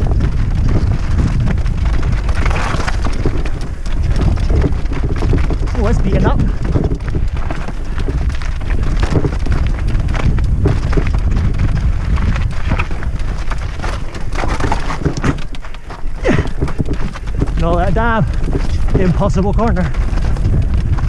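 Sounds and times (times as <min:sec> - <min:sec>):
bike rattling and knocking: 0:00.0 - 0:21.0
tyres crunching on loose stones: 0:00.0 - 0:21.0
wind rumbling on microphone: 0:00.0 - 0:21.0.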